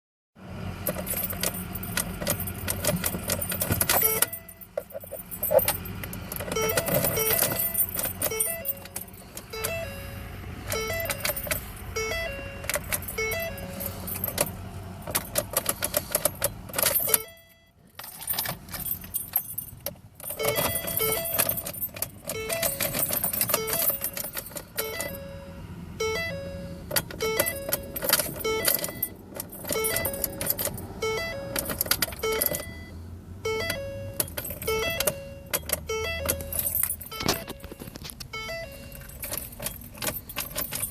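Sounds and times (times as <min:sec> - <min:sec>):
keys jangling and clicking: 0:00.8 - 0:10.0, 0:10.6 - 0:25.2, 0:26.9 - 0:32.8, 0:33.6 - 0:40.9.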